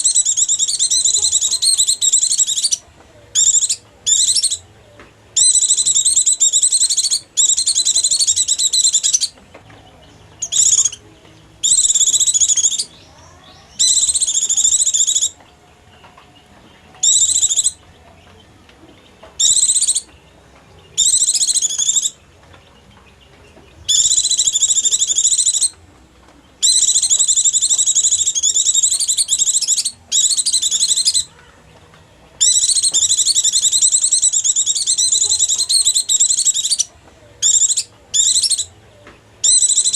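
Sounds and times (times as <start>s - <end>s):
bird high twittering song: 0.0s - 4.7s, 5.3s - 25.8s, 26.5s - 31.7s, 32.4s - 38.8s, 39.4s - 39.9s.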